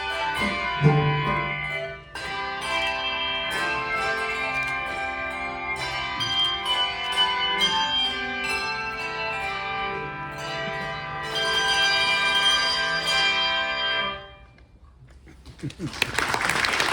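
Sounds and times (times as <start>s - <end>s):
handbell choir ringing chords: 0.0s - 14.2s.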